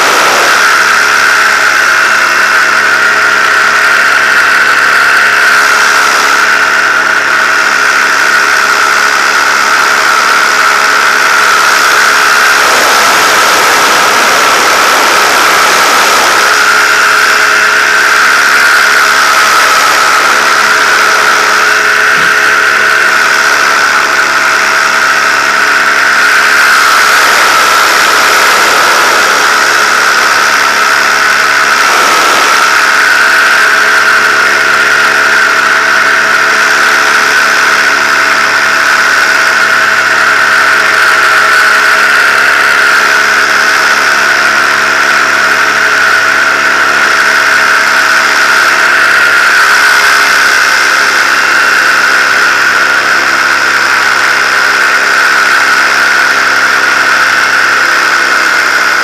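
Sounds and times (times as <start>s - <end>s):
paramotor engine drone: 0.0s - 59.0s.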